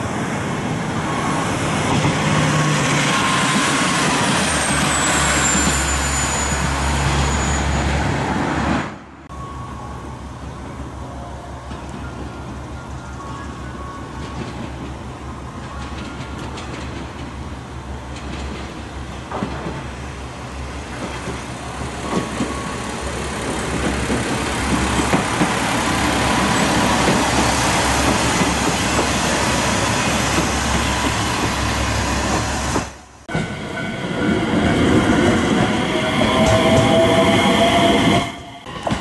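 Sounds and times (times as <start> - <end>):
train rumble and wheel noise: 0.0 - 39.0.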